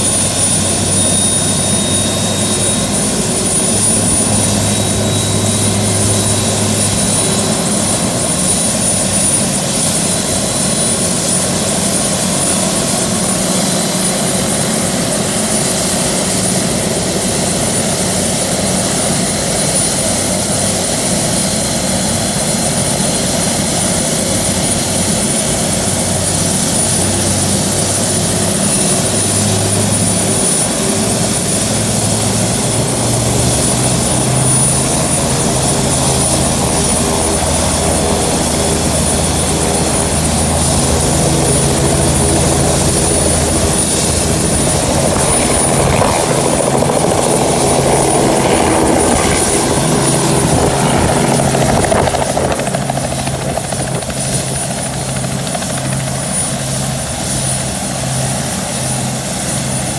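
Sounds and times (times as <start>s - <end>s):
helicopter rotor and engine noise: 0.0s - 59.9s
helicopter turbine whine: 0.0s - 59.9s.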